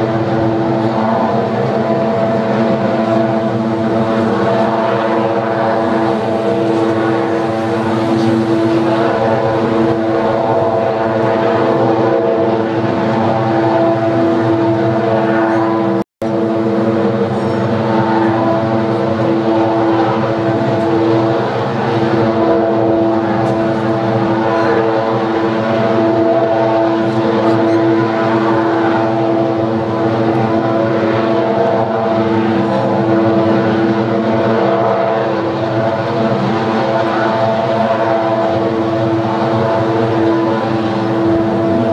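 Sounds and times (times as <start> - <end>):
power plant drone: 0.0 - 41.9
rushing noise: 0.0 - 41.9.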